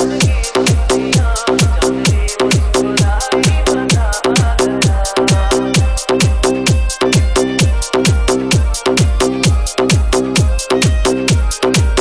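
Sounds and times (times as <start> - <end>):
electronic dance music: 0.0 - 12.0
heavy kick drum: 0.0 - 12.0.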